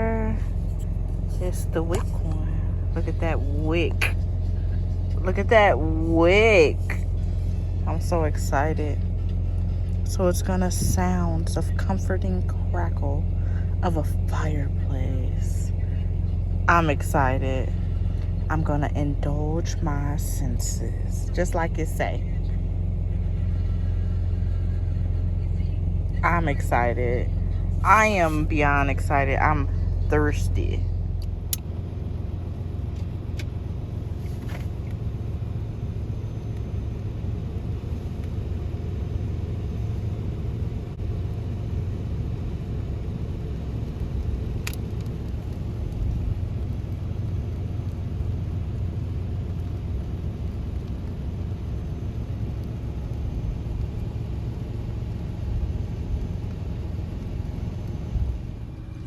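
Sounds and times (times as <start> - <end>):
vehicle motor rumble: 0.0 - 59.0.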